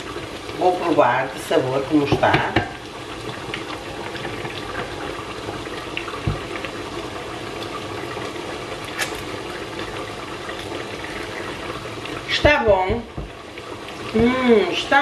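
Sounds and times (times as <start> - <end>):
stew bubbling in pot: 0.0 - 15.0.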